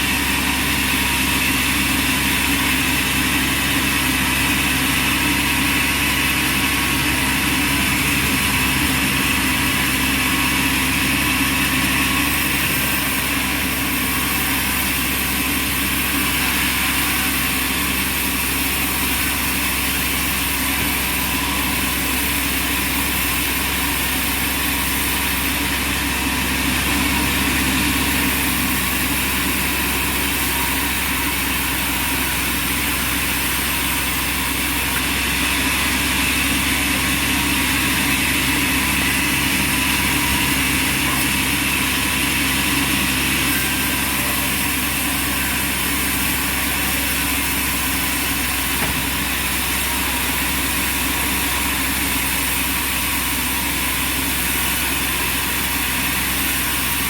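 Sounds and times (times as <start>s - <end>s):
band sawmill humming: 0.0s - 57.0s.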